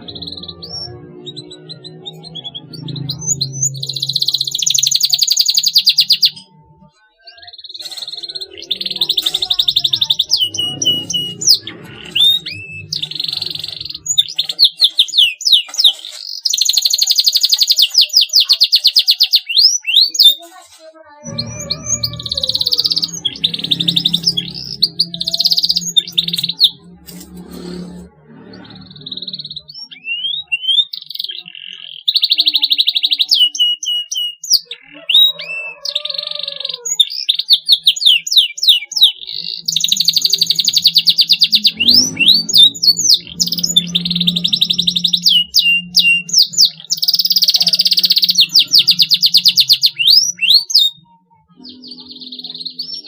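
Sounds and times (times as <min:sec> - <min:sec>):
canary singing trills and chirps: 0:00.0 - 0:53.0.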